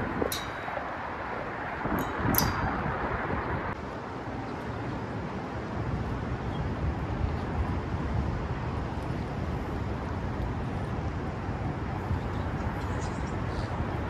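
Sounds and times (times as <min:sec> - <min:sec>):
outdoor rush: 0:00.0 - 0:14.0
wind buffeting microphone: 0:00.0 - 0:14.0.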